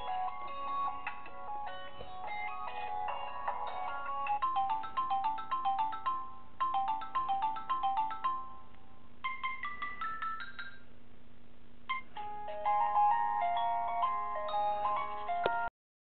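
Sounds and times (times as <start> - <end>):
phone ringtone melody: 0.0 - 10.8, 11.9 - 15.7.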